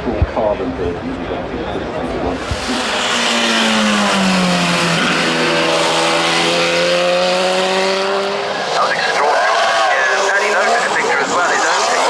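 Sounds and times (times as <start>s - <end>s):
racing car engine revving high: 2.1s - 12.0s.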